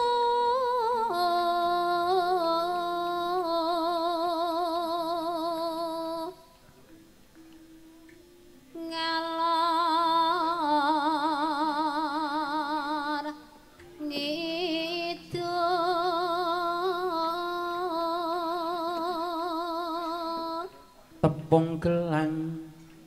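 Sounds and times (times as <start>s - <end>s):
woman singing slow melody: 0.0s - 6.6s, 7.4s - 23.0s.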